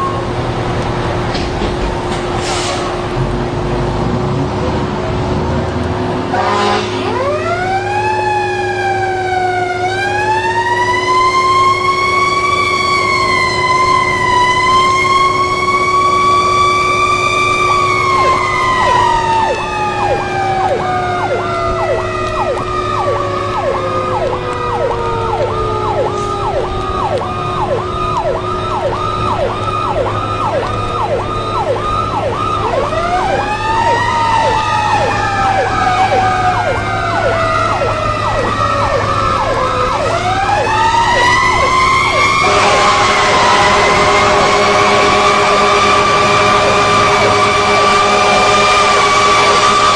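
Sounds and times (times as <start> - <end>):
wailing siren: 0.0 - 1.0, 6.2 - 49.9
steady low drone: 3.0 - 49.9
yelping siren: 6.4 - 49.9.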